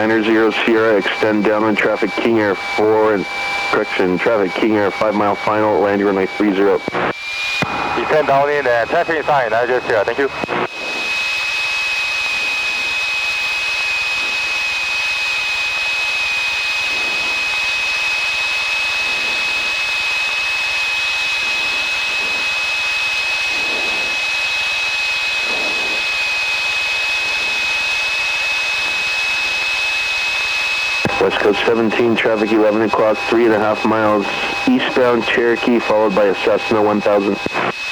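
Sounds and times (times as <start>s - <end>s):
airplane cabin engine drone: 0.0s - 37.9s
high-pitched whine: 0.0s - 37.9s.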